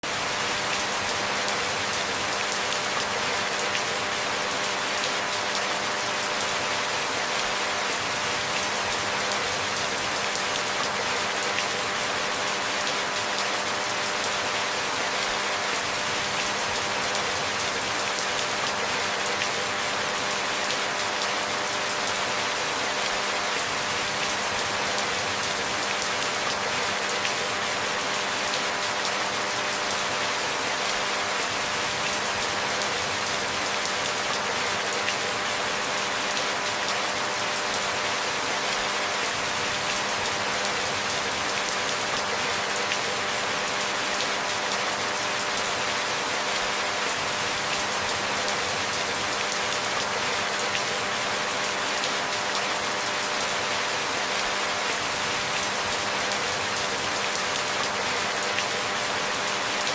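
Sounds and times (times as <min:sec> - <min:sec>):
steady rain hiss: 0:00.1 - 0:59.9.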